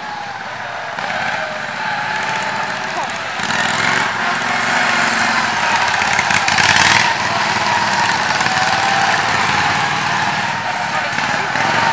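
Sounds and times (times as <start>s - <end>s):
lawn tractor engines passing: 0.0s - 11.9s.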